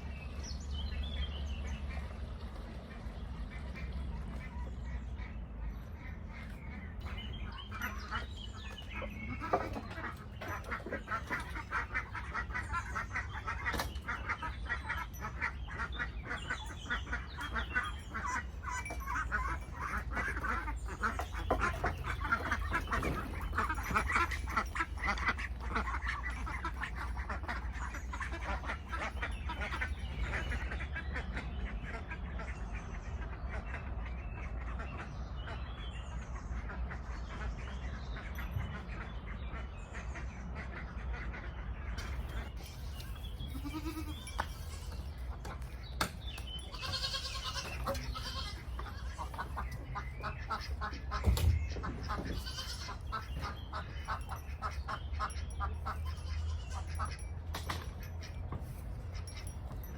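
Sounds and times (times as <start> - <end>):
ducks quacking: 1.6 - 45.9, 46.5 - 57.3.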